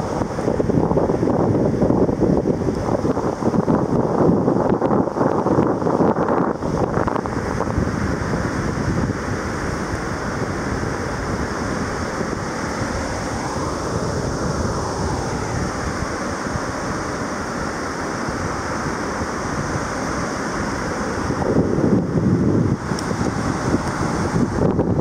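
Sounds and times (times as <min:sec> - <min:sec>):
ocean surf on sandy beach: 0:00.0 - 0:25.0
wind buffeting microphone: 0:00.0 - 0:25.0.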